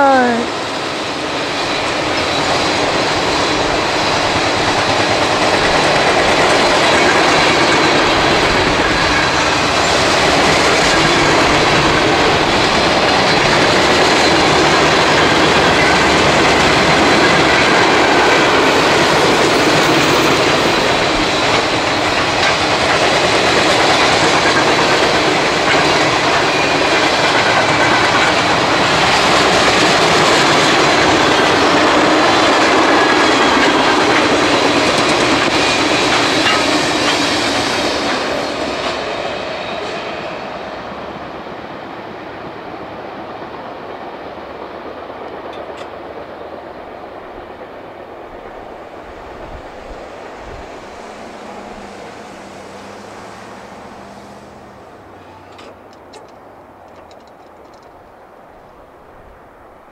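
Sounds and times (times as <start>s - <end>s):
train wheels clacking on rails: 0.0s - 59.0s.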